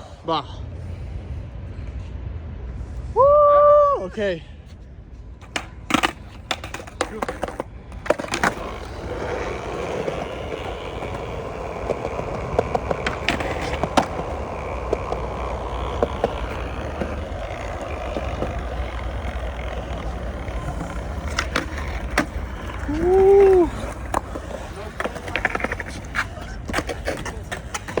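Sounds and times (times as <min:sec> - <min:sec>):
skateboard wheels rolling: 0:05.2 - 0:28.0
skateboard clacks: 0:05.4 - 0:28.0.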